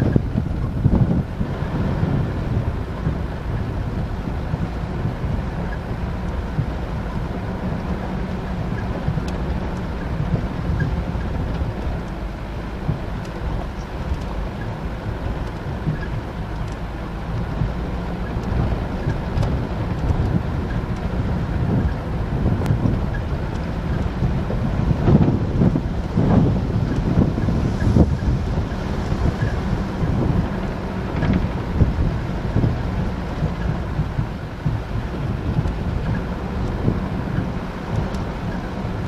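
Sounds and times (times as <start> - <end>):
car engine running: 0.0 - 39.0
wind buffeting microphone: 0.0 - 39.0.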